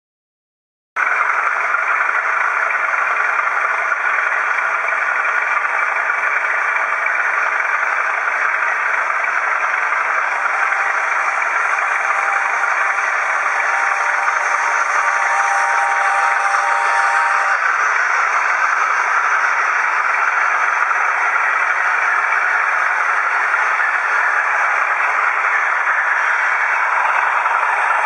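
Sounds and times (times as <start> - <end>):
model train whirring: 1.0 - 28.0.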